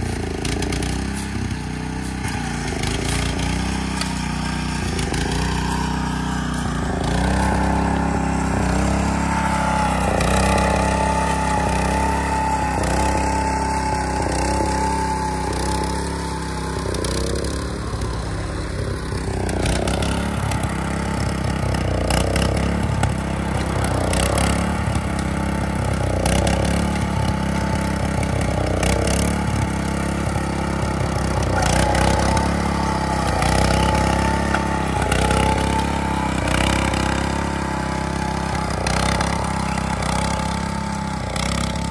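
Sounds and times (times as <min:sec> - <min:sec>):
cultivator engine running: 0:00.0 - 0:41.9.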